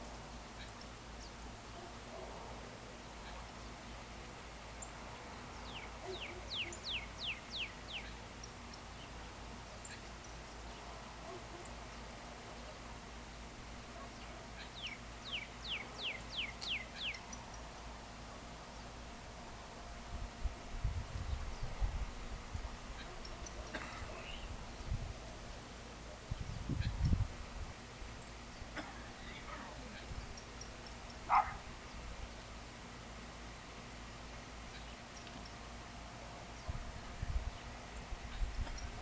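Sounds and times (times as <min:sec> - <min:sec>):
songbird singing: 0:00.0 - 0:20.4, 0:21.0 - 0:39.0.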